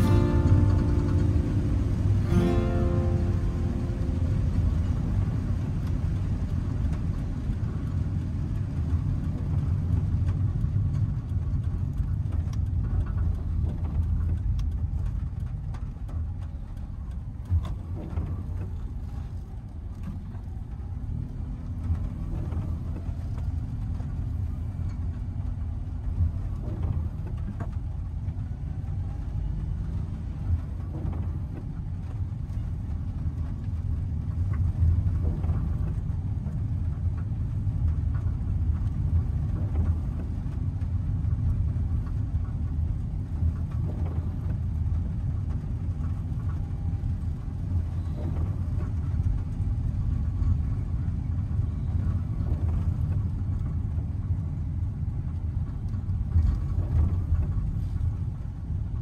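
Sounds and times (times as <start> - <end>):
engine and road rumble: 0.0 - 59.0.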